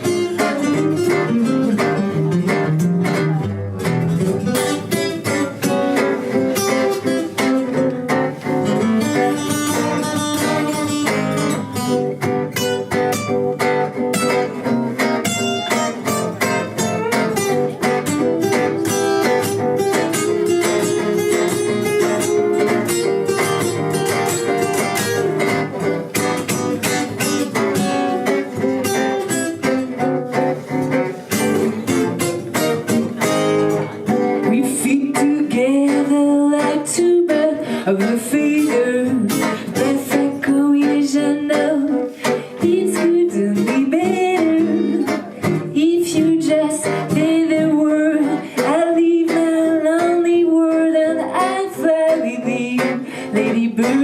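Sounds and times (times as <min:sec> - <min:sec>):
acoustic guitar instrumental: 0:00.0 - 0:54.0.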